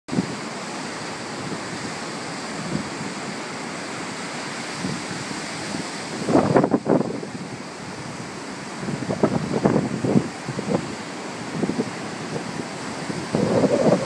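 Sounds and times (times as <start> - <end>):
ocean surf breaking: 0.1 - 14.0.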